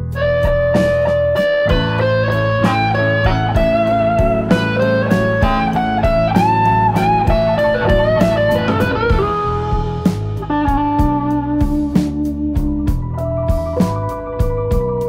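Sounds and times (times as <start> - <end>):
bluesy electric guitar melody: 0.0 - 15.0
steady drum beat: 0.0 - 15.0.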